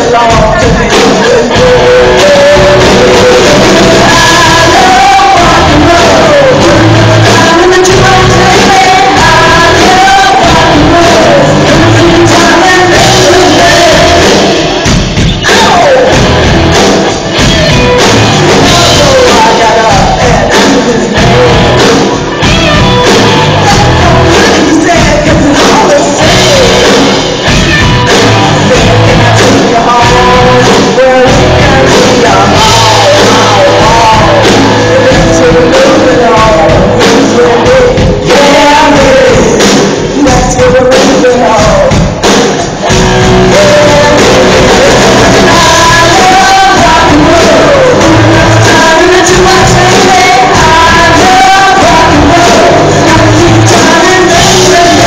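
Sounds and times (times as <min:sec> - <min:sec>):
live rock band playing: 0:00.0 - 0:55.0
singer on lead vocals: 0:00.0 - 0:55.0.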